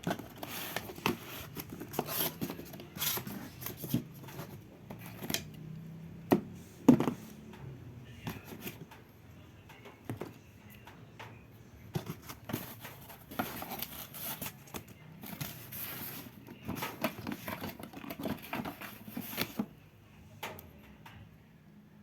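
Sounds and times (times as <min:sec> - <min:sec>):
rustling and knocks of handling: 0:00.0 - 0:05.6, 0:06.2 - 0:09.1, 0:09.7 - 0:19.8.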